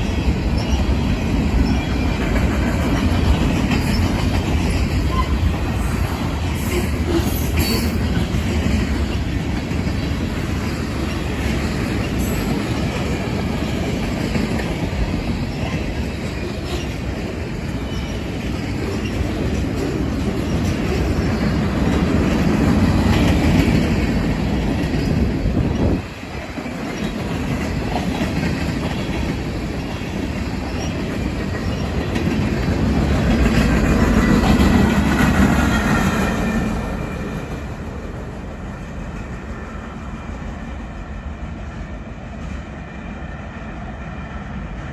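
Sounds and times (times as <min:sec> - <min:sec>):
freight train wheels rumbling on rails: 0:00.0 - 0:44.9.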